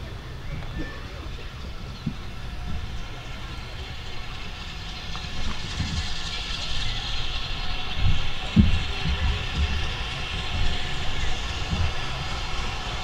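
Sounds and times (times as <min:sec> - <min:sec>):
locomotive exhaust beat: 0:00.0 - 0:13.0
steam locomotive rumble: 0:00.0 - 0:13.0
steam hissing: 0:01.4 - 0:13.0.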